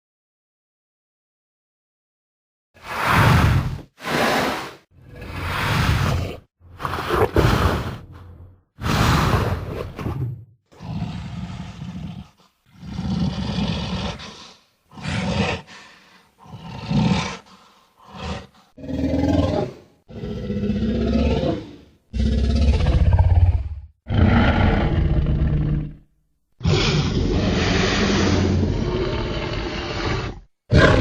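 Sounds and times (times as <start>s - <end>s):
dinosaur roars: 2.8s - 31.0s.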